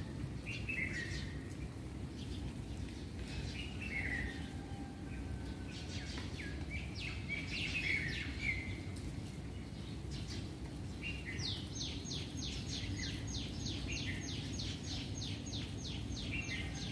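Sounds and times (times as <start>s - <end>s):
birds chirping and whistling: 0.4s - 1.6s, 2.2s - 4.5s, 5.7s - 8.9s, 9.6s - 16.9s.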